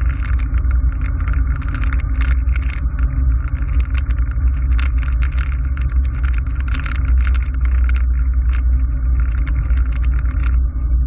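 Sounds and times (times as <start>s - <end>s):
fast irregular crackle: 0.0s - 11.0s.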